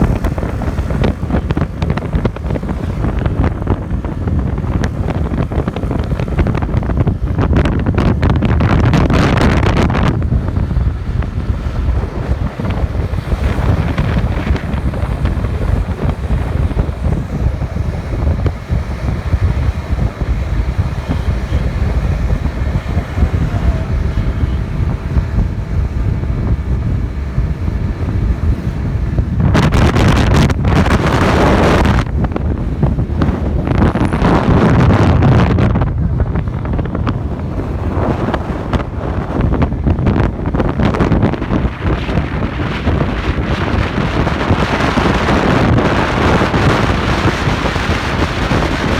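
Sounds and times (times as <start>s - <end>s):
motorcycle engine rumble: 0.0s - 48.9s
wind buffeting microphone: 0.0s - 48.9s.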